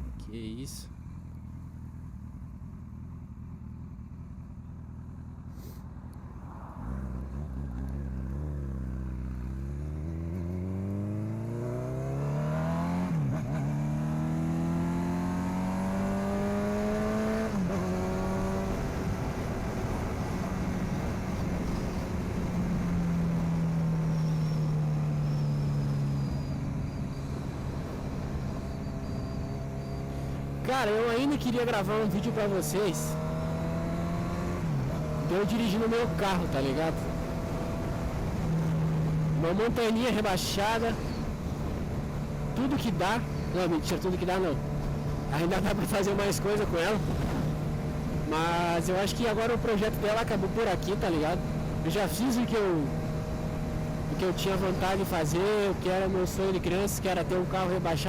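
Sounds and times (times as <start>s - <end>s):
motorcycle engine accelerating: 0.9s - 58.0s.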